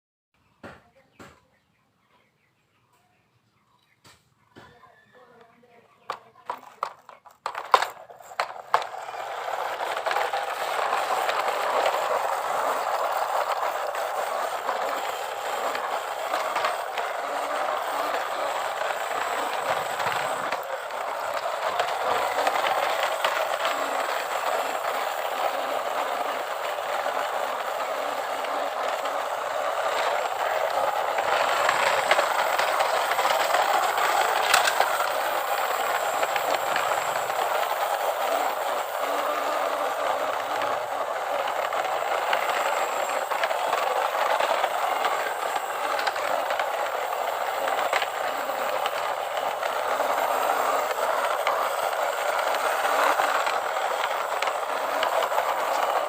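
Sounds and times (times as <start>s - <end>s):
toy vehicle mechanical rattle: 4.8s - 56.0s.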